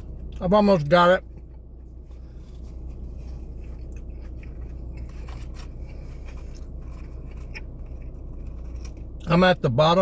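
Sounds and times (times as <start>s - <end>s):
steady low hum: 0.0s - 10.0s
person chewing: 1.2s - 9.4s.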